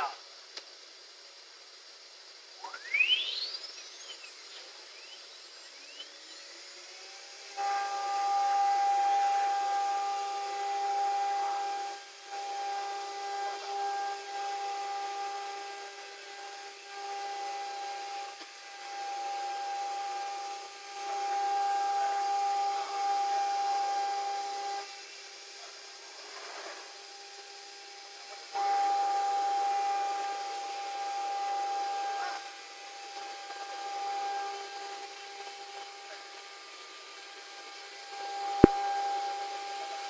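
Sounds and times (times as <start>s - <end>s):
hiss: 0.0s - 40.0s
router high whine: 0.0s - 40.0s.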